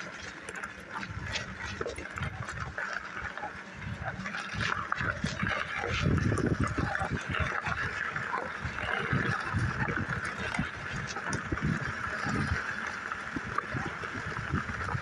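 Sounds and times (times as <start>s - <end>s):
wind and riding noise: 0.0s - 15.0s.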